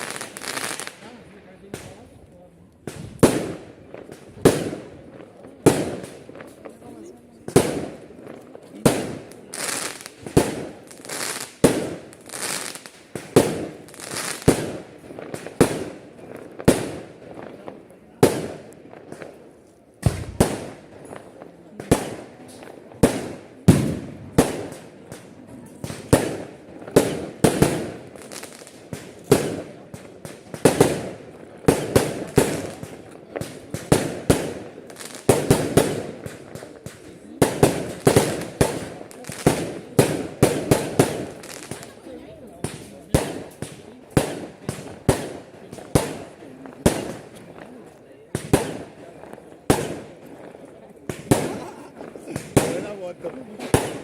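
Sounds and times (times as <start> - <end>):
fireworks bangs with hiss: 0.0 - 2.1, 2.8 - 54.0.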